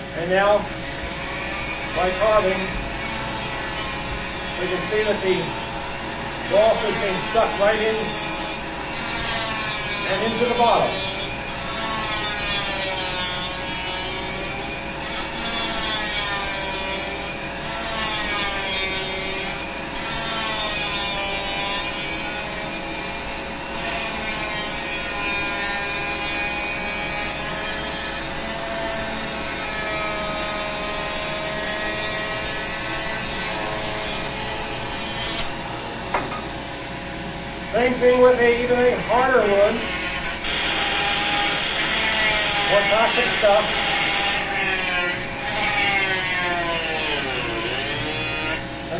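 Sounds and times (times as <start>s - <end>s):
rotary tool grinding wood: 0.4s - 35.6s, 39.0s - 48.7s.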